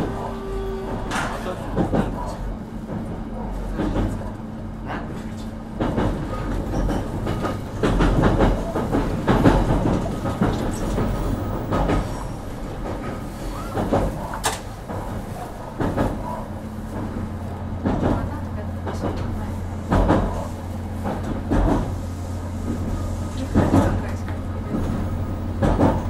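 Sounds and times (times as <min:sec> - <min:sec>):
wheels clattering over rails: 0:00.0 - 0:04.4, 0:05.2 - 0:26.0
train rumble and hum: 0:00.0 - 0:26.0.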